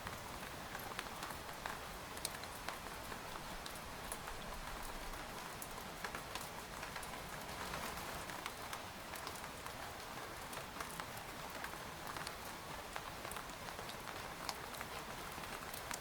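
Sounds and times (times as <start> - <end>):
rain on a tent: 0.0 - 16.0.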